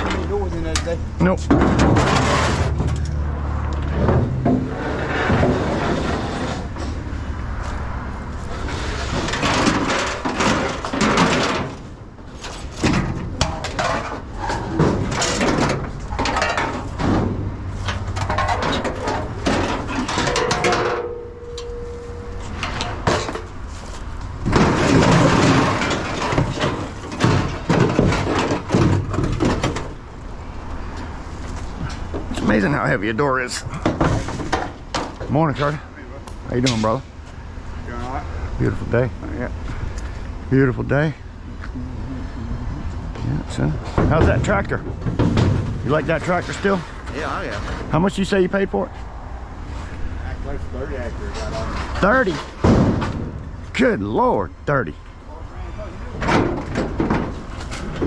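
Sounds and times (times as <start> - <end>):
metal panels clanking and scraping: 0.0 - 37.2, 43.5 - 48.2, 51.2 - 54.3, 56.1 - 58.0.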